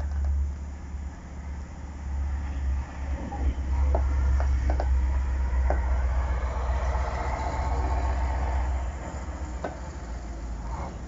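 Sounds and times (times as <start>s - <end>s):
steady low drone: 0.0s - 11.0s
truck engine rumbling: 0.0s - 11.0s.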